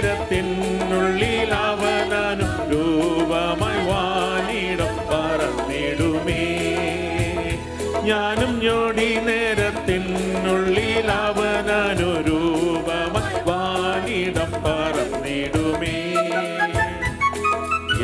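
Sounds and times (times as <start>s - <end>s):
keyboard worship song with programmed beat: 0.0s - 18.0s.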